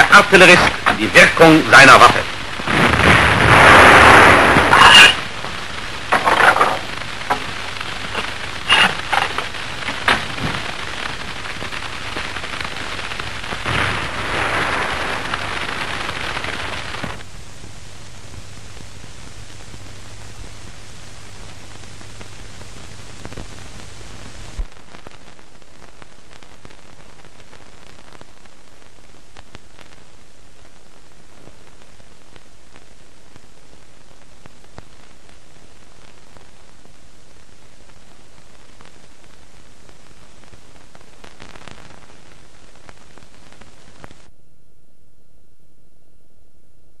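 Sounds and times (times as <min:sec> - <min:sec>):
rushing noise with crackles: 0:00.0 - 0:44.3
film soundtrack hiss: 0:00.0 - 0:47.0.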